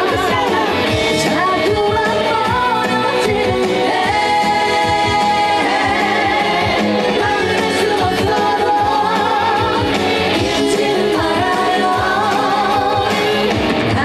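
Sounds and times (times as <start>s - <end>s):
backing track with drum beat: 0.0s - 14.0s
woman singing with vibrato: 0.0s - 14.0s.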